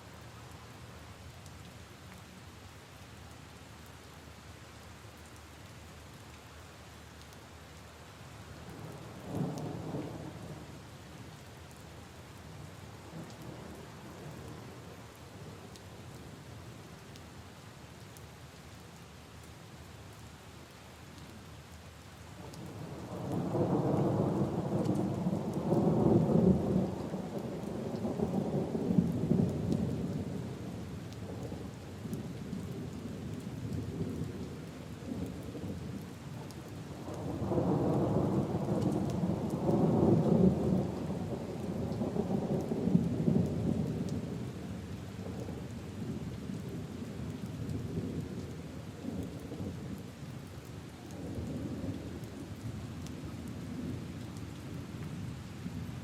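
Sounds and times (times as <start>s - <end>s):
rain on leaves and puddles: 0.0s - 56.0s.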